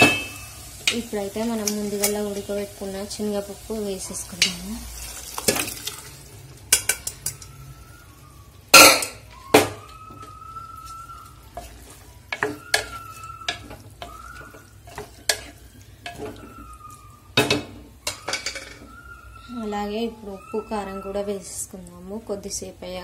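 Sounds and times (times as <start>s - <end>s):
curry sizzling: 0.0s - 23.0s.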